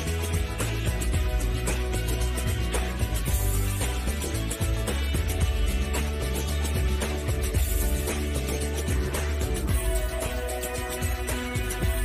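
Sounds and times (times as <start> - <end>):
music with steady beat: 0.0 - 12.0
sustained bass line: 0.0 - 12.0.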